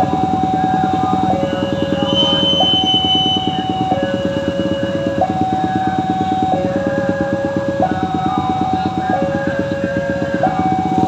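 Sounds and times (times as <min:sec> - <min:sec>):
level crossing warning alarm: 0:00.0 - 0:11.0.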